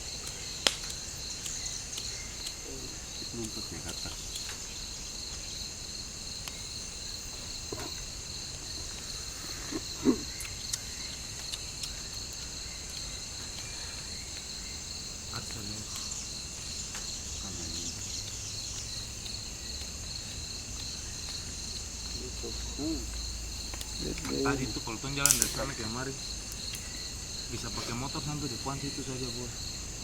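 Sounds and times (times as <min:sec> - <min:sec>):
insects chorus buzzing: 0:00.0 - 0:30.0
faint clicks: 0:00.1 - 0:05.4, 0:06.3 - 0:24.5, 0:25.1 - 0:28.2.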